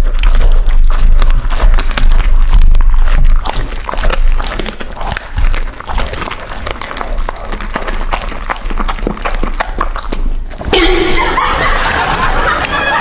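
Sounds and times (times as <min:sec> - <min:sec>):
dogs licking and chewing: 0:00.0 - 0:13.0.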